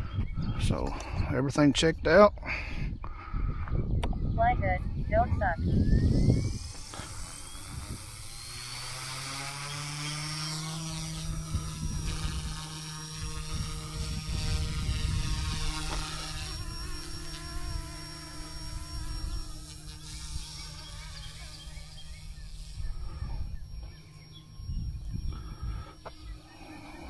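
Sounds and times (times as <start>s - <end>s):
rc helicopter motor whine: 2.5s - 27.0s.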